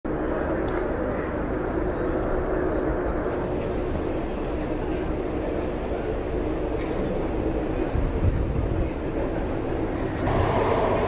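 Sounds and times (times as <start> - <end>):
turboprop aircraft engines droning: 0.1 - 11.0.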